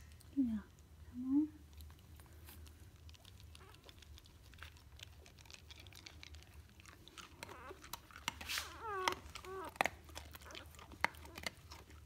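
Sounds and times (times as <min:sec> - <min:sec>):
dogs' mouths smacking and clicking: 0:01.8 - 0:12.0.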